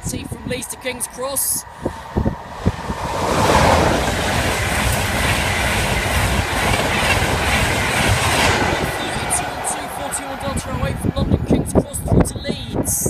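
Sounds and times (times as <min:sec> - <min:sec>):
electric train passing at speed: 0:00.0 - 0:12.9.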